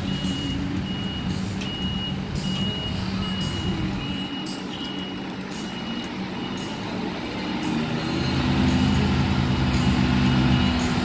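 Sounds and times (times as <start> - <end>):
diesel engine running low: 0.0 - 11.0
truck reversing alarm beeping: 0.0 - 11.0.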